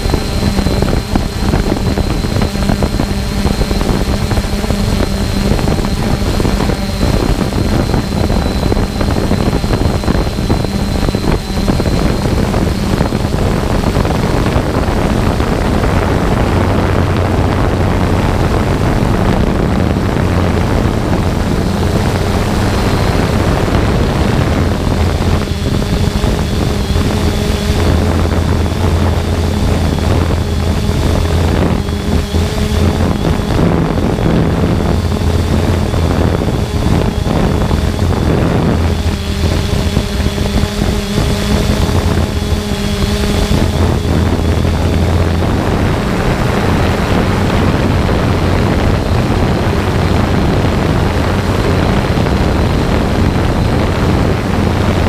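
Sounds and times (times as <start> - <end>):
drone propellers whirring: 0.0 - 55.0.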